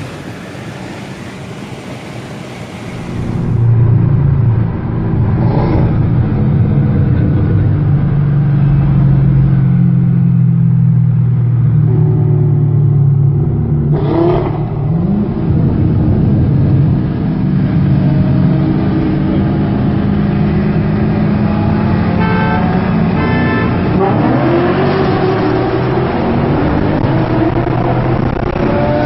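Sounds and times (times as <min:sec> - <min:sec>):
car engine accelerating: 0:02.9 - 0:29.0.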